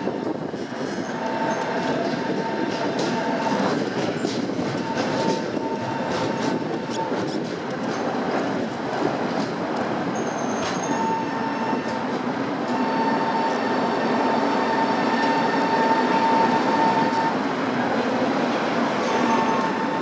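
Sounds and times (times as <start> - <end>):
tram wheels rumbling on track: 0.0 - 20.0.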